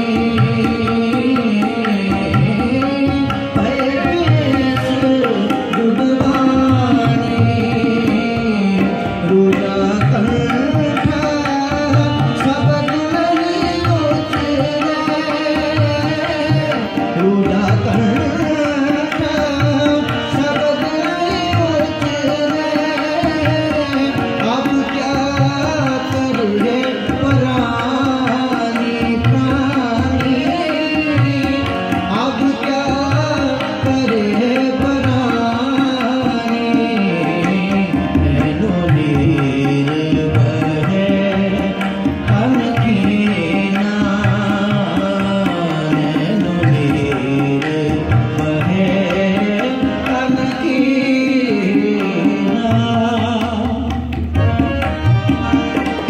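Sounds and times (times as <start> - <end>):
harmonium: 0.0 - 56.0
person singing: 0.0 - 56.0
tabla beat: 0.0 - 56.0.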